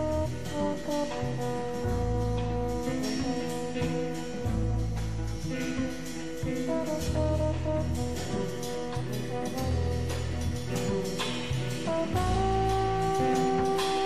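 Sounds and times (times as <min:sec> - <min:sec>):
bass line: 0:00.0 - 0:14.0
held horn notes: 0:00.0 - 0:14.0.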